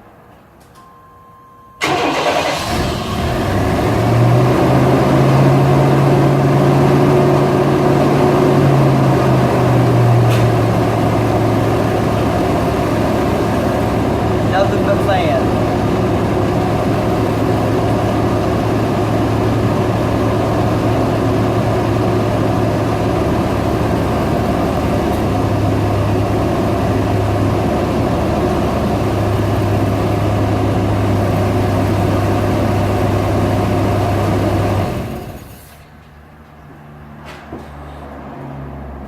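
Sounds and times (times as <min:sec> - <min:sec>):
engine idling: 0:01.8 - 0:35.5.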